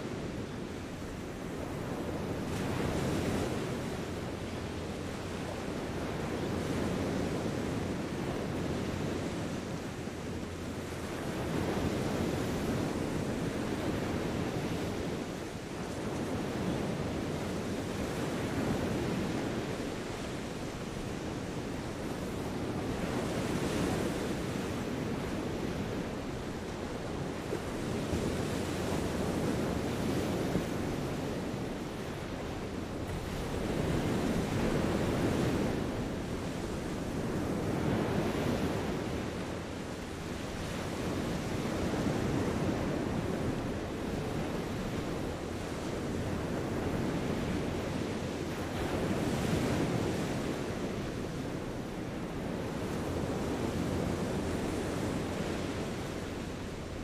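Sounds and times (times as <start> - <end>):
sea waves washing on beach: 0.0 - 57.0.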